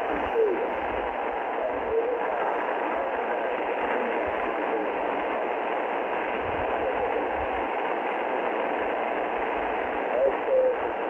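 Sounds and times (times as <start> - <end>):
faint wavering radio station: 0.0 - 11.0
radio static hiss: 0.0 - 11.0.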